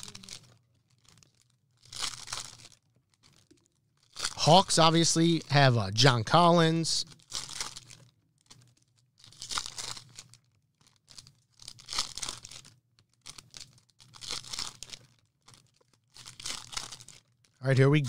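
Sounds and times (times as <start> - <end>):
foil packs ripping open: 0.0 - 4.4, 7.2 - 17.4
wrapper crinkling: 0.0 - 17.6.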